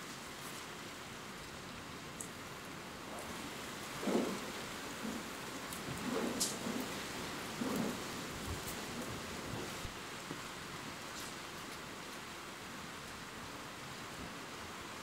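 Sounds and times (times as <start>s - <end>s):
raindrops pattering: 0.0s - 13.3s
rain falling: 0.0s - 15.0s.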